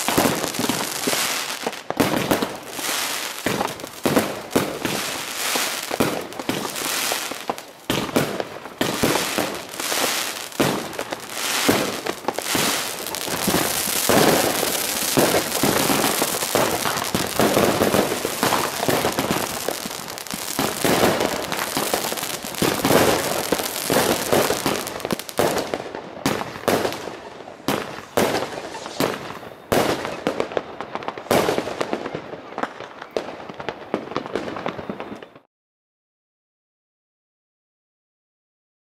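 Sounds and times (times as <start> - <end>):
fireworks bursting: 0.0 - 35.5.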